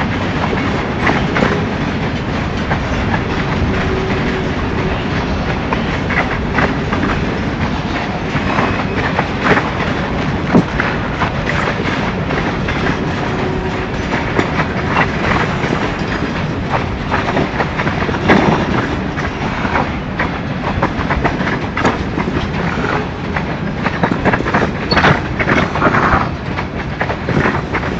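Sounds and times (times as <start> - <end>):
freight train rolling past: 0.0 - 27.9
steel wheels clicking over rail joints: 0.0 - 27.9.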